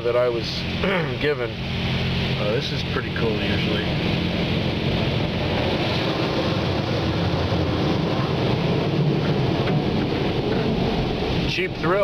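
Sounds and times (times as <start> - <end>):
car wash rushing noise: 0.0 - 12.0.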